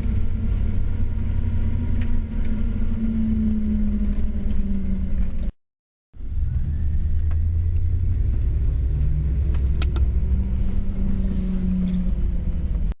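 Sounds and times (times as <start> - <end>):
vehicle driving rumble: 0.0 - 5.6, 6.2 - 13.0.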